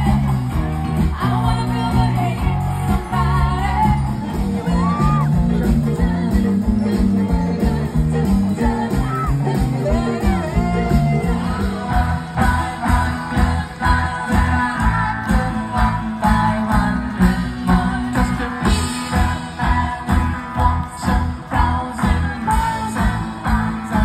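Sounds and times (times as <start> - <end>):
band playing: 0.0 - 24.0
woman singing: 0.0 - 24.0.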